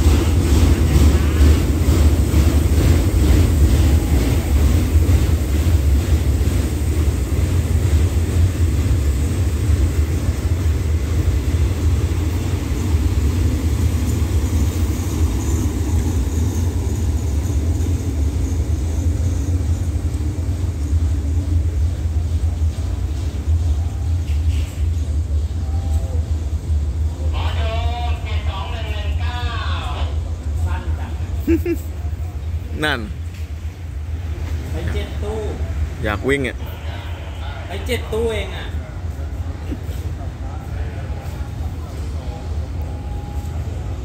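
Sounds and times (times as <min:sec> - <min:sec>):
diesel train engine rumble: 0:00.0 - 0:44.0.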